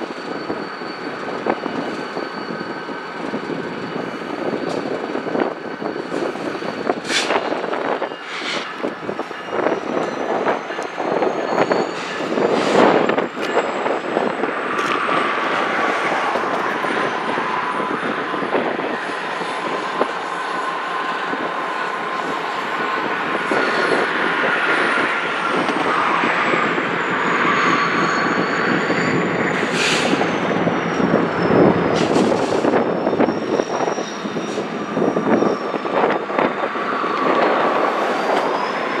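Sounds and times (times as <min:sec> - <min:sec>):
din of train movement: 0:00.0 - 0:39.0
train wheel squeal: 0:00.0 - 0:39.0.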